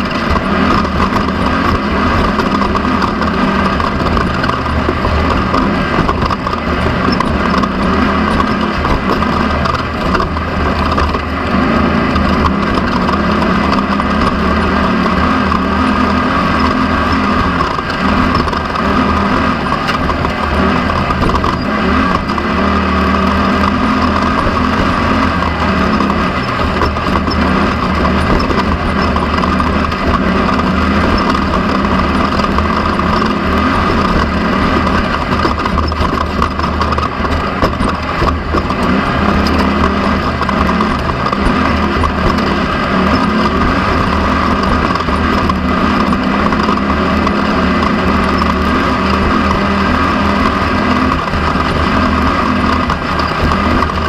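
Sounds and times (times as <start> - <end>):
knocks and rattles: 0.0 - 54.0
race car engine running hard: 0.0 - 54.0.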